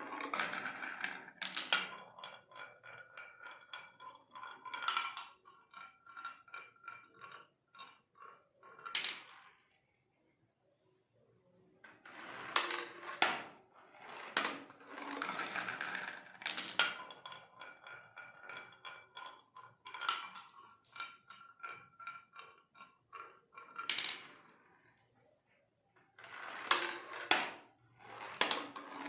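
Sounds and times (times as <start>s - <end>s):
marbles rolling down wooden track: 0.0s - 9.8s, 11.8s - 25.0s, 26.1s - 29.0s.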